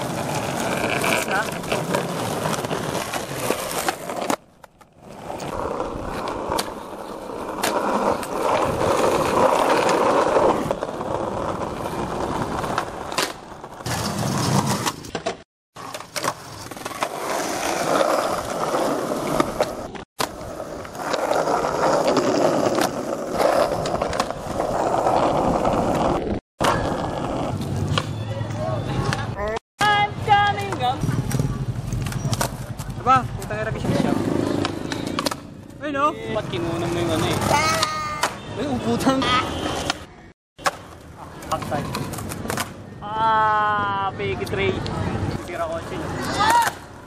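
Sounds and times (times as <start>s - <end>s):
skateboard clicks and slaps: 0.0s - 35.8s, 37.0s - 38.5s, 39.4s - 42.8s, 45.7s - 47.0s
skateboard wheels rolling on pavement: 0.0s - 43.0s, 43.9s - 47.0s.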